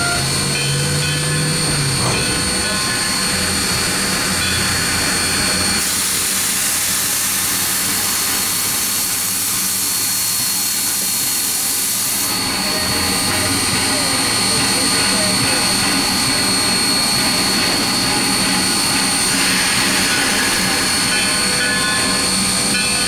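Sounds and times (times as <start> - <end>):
hiss of train: 0.0 - 23.0
passenger train roaring on rails: 0.0 - 23.0.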